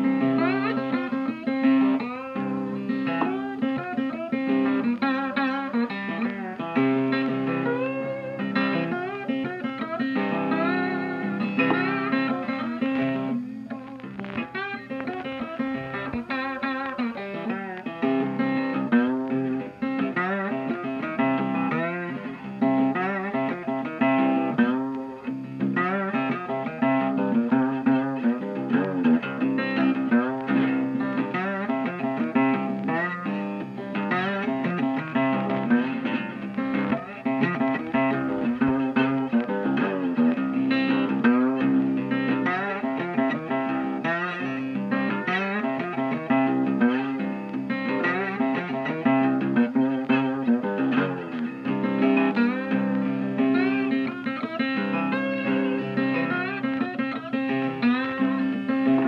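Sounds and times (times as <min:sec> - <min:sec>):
guitar music with bending notes: 0:00.0 - 0:59.0.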